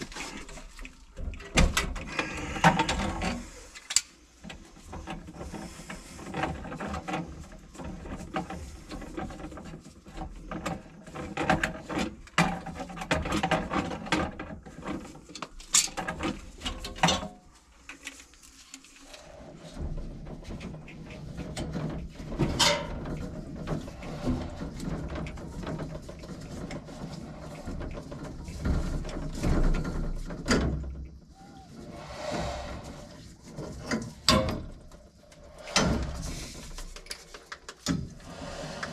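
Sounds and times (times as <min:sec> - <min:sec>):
plumbing tools clicking and rattling: 0:00.0 - 0:31.5, 0:33.4 - 0:38.9.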